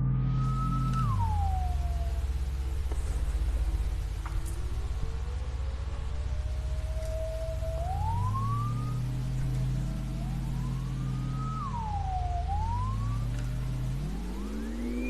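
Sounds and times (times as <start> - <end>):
gliding high synth tone: 0.0 - 3.8, 6.2 - 15.0
low synthesizer drone: 0.0 - 15.0.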